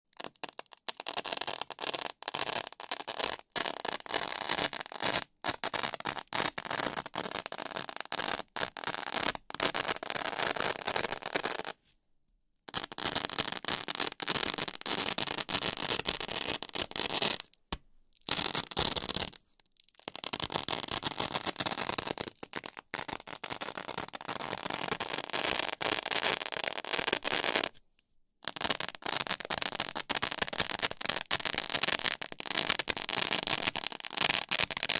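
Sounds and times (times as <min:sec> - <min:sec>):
velcro ripping and crackling: 0:00.1 - 0:11.8, 0:12.7 - 0:17.6, 0:18.2 - 0:27.8, 0:28.4 - 0:34.9.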